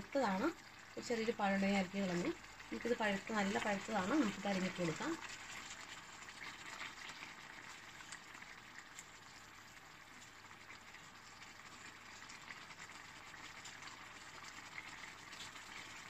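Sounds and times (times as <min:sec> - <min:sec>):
curry simmering in a pan: 0:00.0 - 0:16.0.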